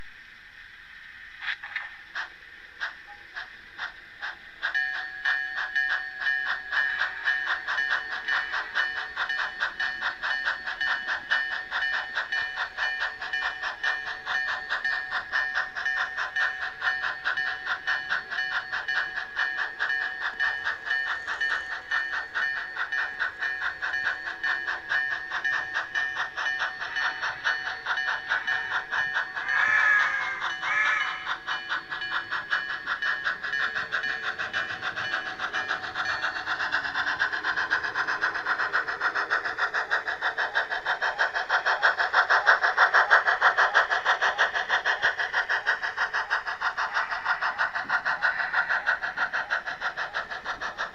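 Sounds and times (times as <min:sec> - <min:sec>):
model train clicks: 0:00.0 - 0:50.9
model train rhythmic pulsing: 0:00.0 - 0:50.9.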